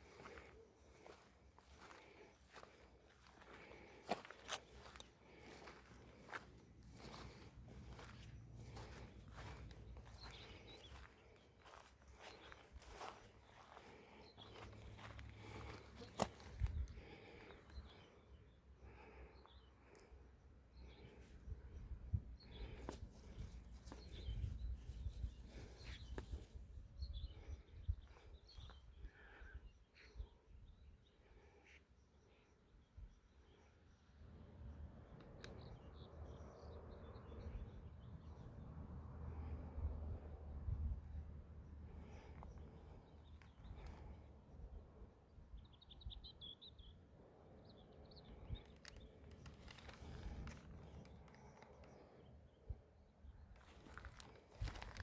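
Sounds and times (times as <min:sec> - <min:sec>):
constant low rumble: 0:00.0 - 0:28.5, 0:34.2 - 0:45.8, 0:47.2 - 0:55.0.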